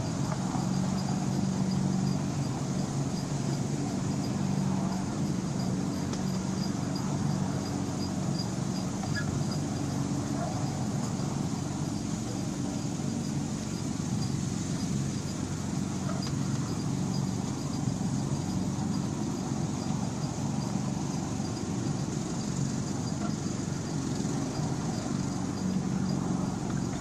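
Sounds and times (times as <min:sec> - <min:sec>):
miniature train engine drone: 0:00.0 - 0:27.0.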